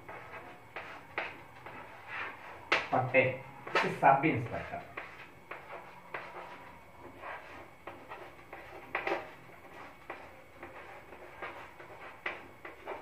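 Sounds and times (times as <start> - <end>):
chalk scratching on blackboard: 0.0 - 13.0.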